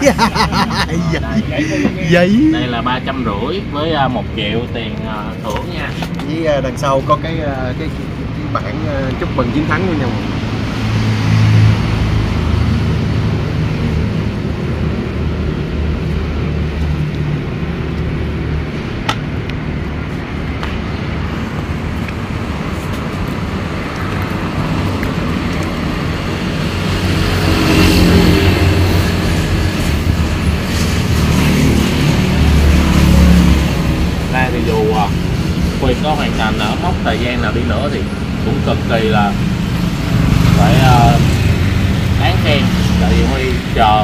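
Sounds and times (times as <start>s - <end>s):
road traffic: 0.0s - 44.0s.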